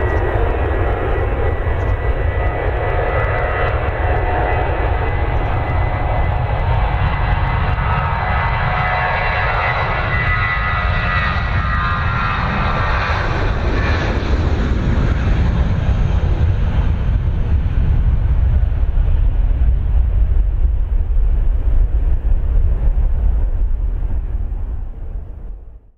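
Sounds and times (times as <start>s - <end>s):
jet airliner taking off: 0.0s - 25.9s
jet engine whine: 0.0s - 25.9s.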